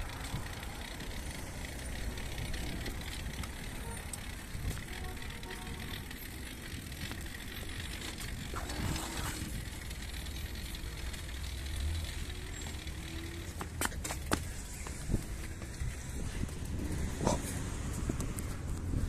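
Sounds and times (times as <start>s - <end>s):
bike rolling rumble: 0.0s - 19.0s.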